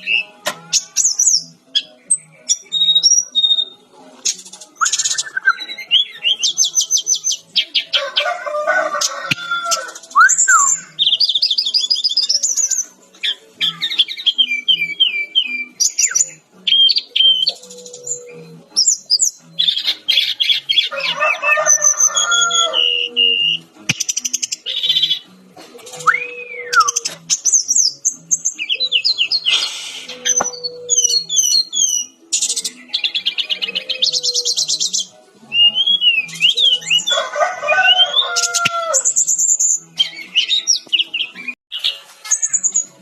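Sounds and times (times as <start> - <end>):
flycatcher singing trills and whistles: 0.0 - 7.9, 9.7 - 20.9, 26.0 - 37.2, 37.8 - 43.0.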